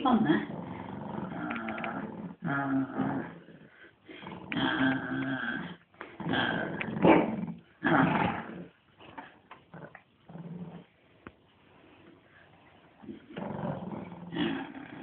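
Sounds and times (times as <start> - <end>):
dog growling in play: 0.2 - 11.0, 13.0 - 15.0.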